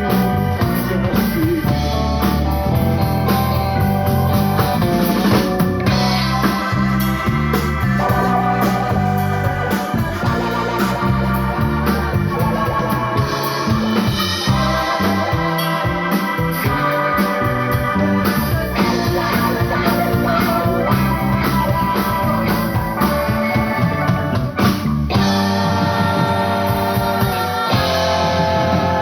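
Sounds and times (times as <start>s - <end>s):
live band playing: 0.0s - 29.0s
organ-like keyboard chords: 0.0s - 29.0s
steady drum beat: 0.0s - 29.0s.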